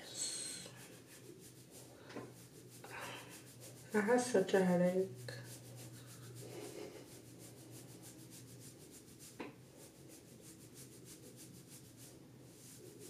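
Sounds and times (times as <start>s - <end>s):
rubbing through wet hair: 0.6s - 13.0s.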